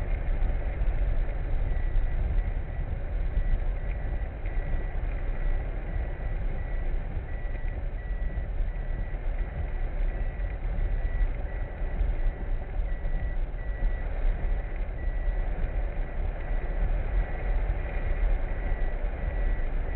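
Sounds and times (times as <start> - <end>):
vehicle rumbling: 0.0 - 19.9.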